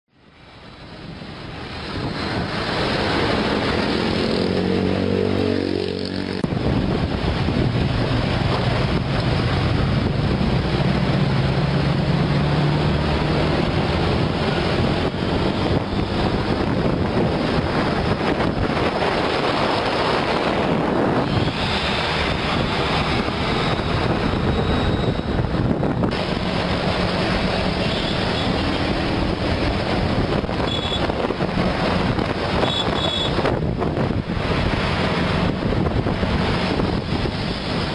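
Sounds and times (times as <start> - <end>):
road and wind noise: 0.1 - 37.9.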